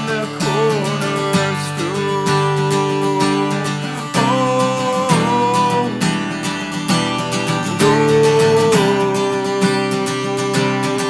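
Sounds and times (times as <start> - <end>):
acoustic guitar strumming: 0.0 - 11.0
man singing: 0.0 - 11.0.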